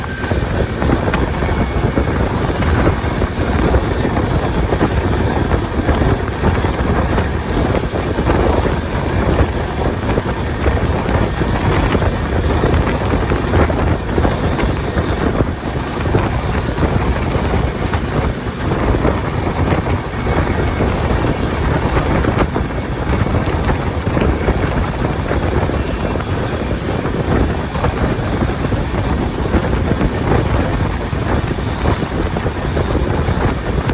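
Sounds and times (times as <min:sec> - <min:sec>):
train wheels rumbling on rails: 0:00.0 - 0:33.9
wind buffeting microphone: 0:00.0 - 0:33.9.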